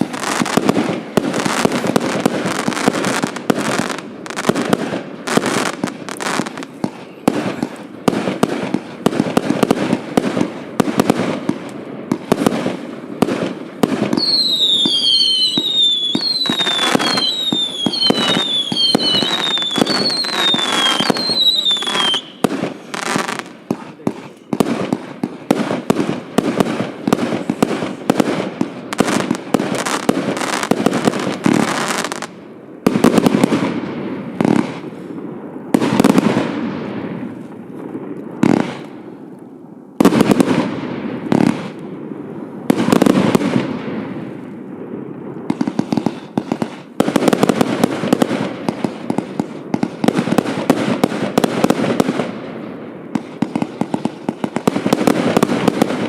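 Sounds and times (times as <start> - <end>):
firework bursts: 0.0 - 56.0
fireworks firing volleys of shots: 0.0 - 56.0.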